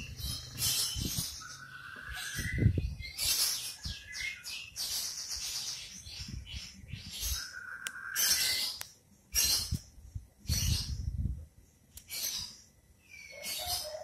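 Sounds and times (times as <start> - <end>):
birds whistling and chirping: 0.0 - 11.3, 12.0 - 14.0.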